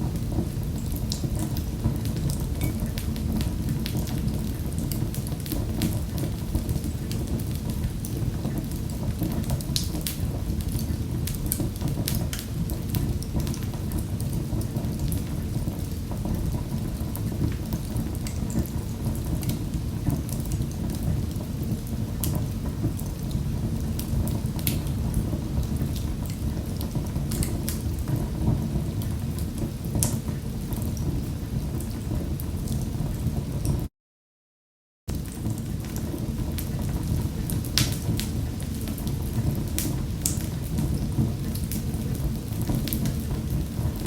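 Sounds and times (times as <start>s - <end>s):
low rush of burning fire: 0.0s - 33.7s, 35.1s - 44.0s
wood fire crackling and popping: 0.0s - 33.8s, 35.1s - 44.0s.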